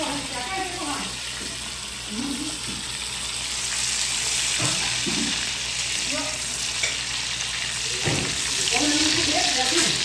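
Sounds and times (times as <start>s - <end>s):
cheese sizzling in a pan: 0.0s - 10.0s.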